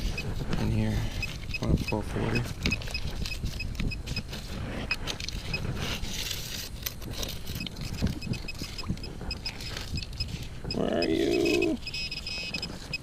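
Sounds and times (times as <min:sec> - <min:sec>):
metal detector beeps: 0:00.0 - 0:05.7, 0:07.5 - 0:13.0
water and sand sloshing: 0:00.0 - 0:12.9.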